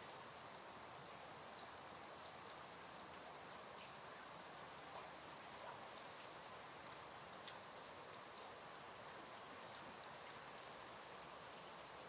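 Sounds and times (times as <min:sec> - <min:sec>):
soft steady rain: 0:00.0 - 0:12.0.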